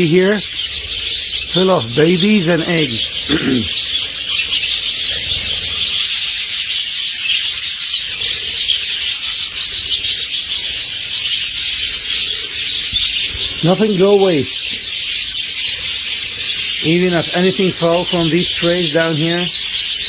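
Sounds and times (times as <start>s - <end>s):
budgerigars chattering and chirping: 0.0s - 20.0s.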